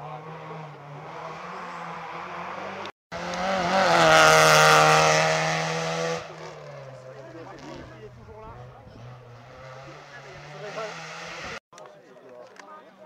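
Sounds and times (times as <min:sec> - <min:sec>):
rally car engine passing by: 0:00.0 - 0:11.6.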